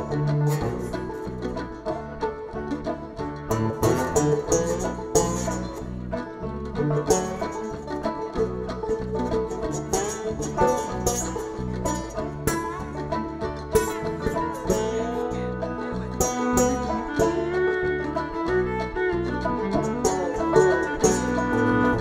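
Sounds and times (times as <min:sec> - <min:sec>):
quick picked notes: 0:00.0 - 0:22.0.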